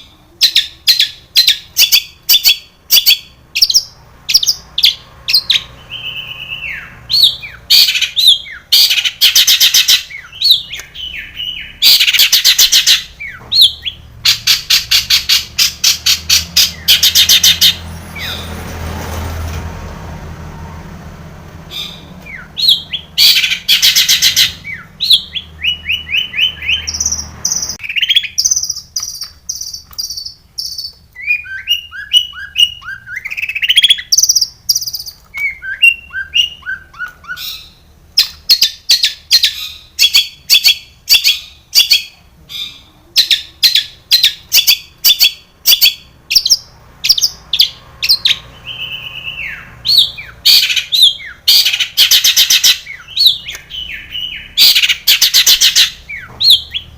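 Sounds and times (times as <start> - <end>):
shrike singing: 0.0 - 18.6, 21.7 - 56.9.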